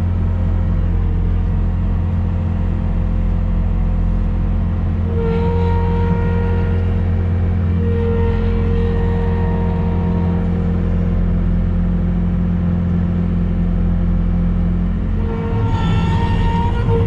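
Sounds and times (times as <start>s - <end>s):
construction machine engine: 0.0s - 17.0s
steady whine: 0.0s - 17.0s.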